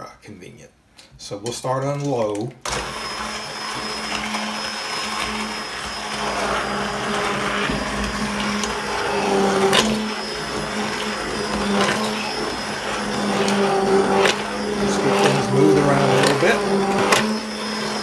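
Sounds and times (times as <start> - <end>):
stick blender motor humming: 2.7 - 18.0.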